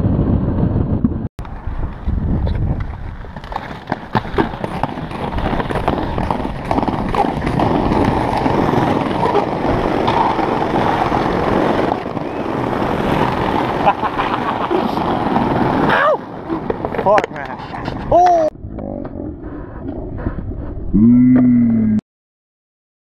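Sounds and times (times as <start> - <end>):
skate wheels rolling on paving: 0.0 - 18.5.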